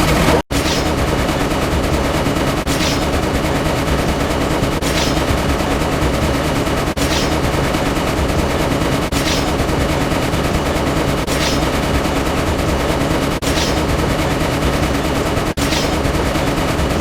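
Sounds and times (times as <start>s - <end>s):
rapid machine-gun fire: 0.0s - 17.0s.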